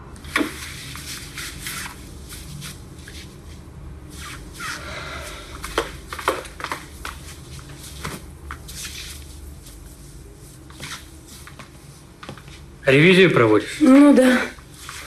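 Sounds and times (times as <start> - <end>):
clothes rustling: 0.2 - 12.8, 13.9 - 15.0.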